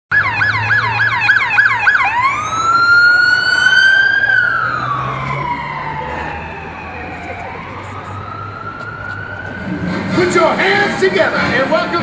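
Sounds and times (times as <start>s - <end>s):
emergency vehicle siren: 0.1s - 12.0s.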